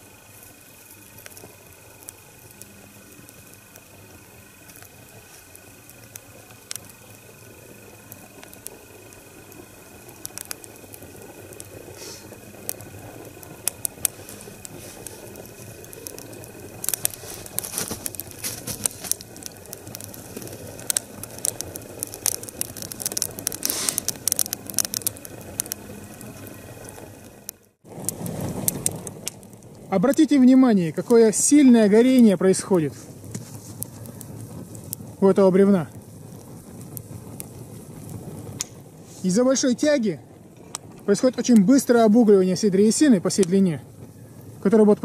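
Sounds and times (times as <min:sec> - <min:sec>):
low rushing of fire: 0:00.0 - 0:45.0
wood fire crackling and popping: 0:00.0 - 0:45.0.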